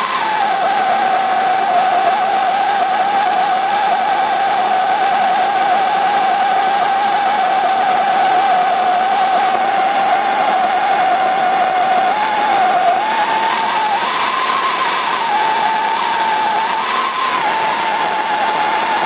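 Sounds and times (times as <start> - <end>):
gas torch hissing with whistle: 0.0 - 19.0.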